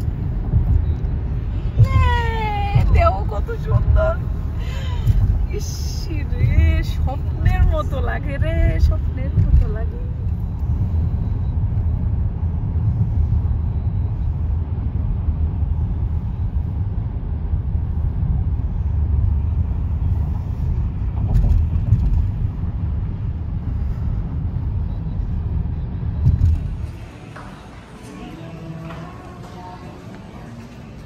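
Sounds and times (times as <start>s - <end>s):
car road noise inside cabin: 0.0s - 31.0s.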